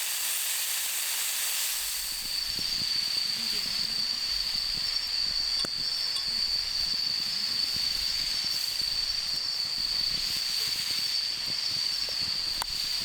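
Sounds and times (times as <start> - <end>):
crickets trilling: 1.9 - 13.0.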